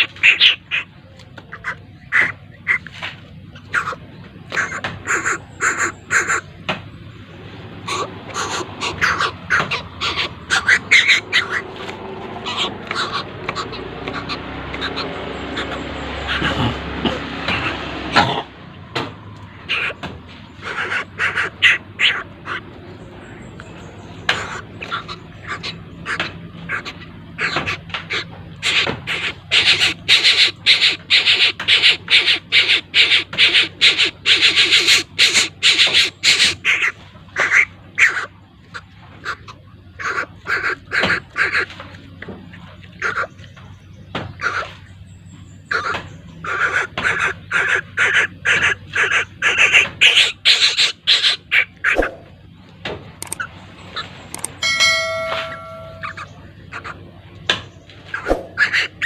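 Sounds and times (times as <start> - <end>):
raptor chick begging calls: 0.0 - 0.9, 1.5 - 2.9, 3.5 - 18.4, 19.3 - 41.7, 42.9 - 43.4, 45.5 - 52.3, 53.2 - 57.0, 58.1 - 59.0.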